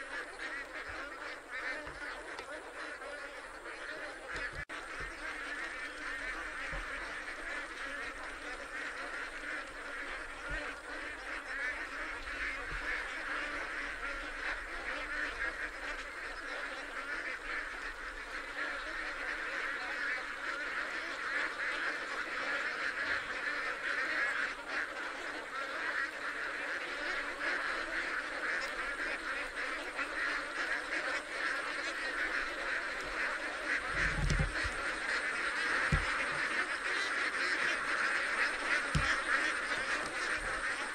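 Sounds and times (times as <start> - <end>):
ducks quacking: 0.0 - 40.9.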